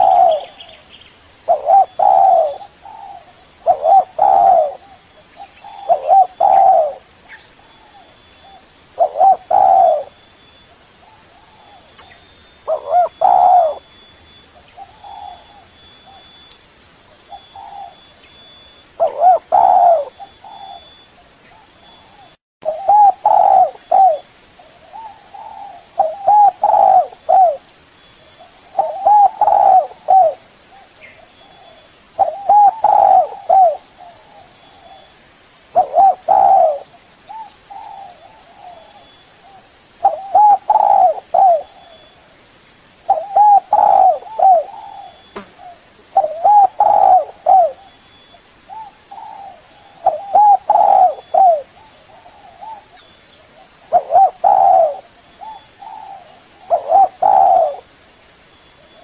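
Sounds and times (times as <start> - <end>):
dove cooing: 0.0 - 0.9, 1.5 - 16.4, 17.2 - 27.6, 28.3 - 42.4, 43.1 - 57.9.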